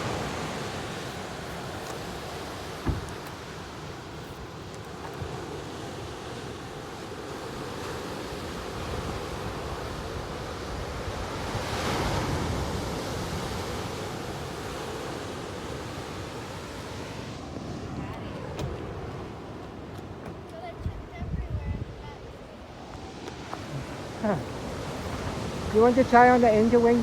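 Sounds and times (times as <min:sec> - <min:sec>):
ocean surf washing onto beach: 0:00.0 - 0:27.0.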